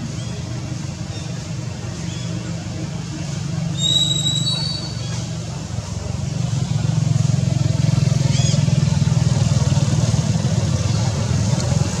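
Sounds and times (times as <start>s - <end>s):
engine pulsing hum: 0.0s - 12.0s.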